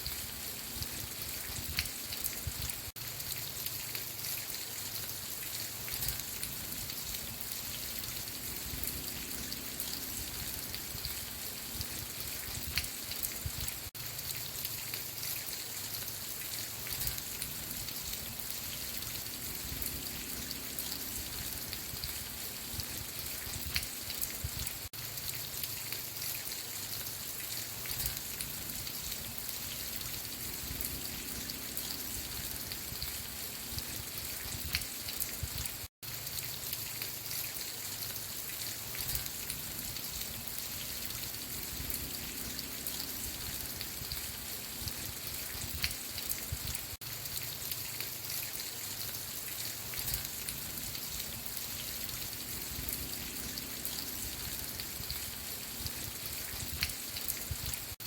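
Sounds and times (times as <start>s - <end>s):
rain drops pattering: 0.0s - 58.0s.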